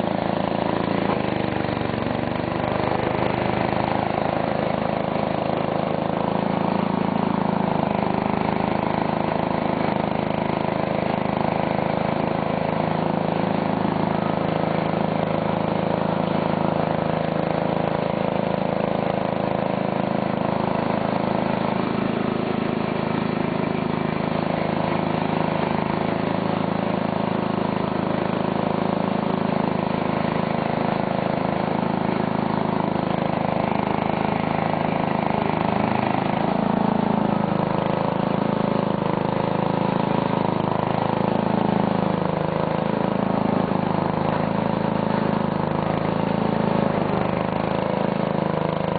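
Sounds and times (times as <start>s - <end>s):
garden tractor engine running: 0.0s - 48.9s.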